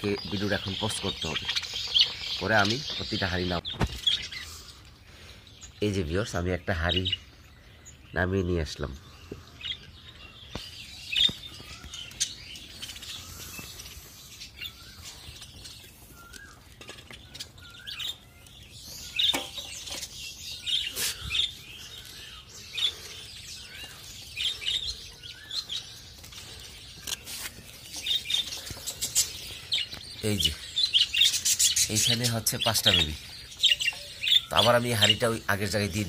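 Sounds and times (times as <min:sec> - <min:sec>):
budgerigars chirping: 0:00.0 - 0:36.0.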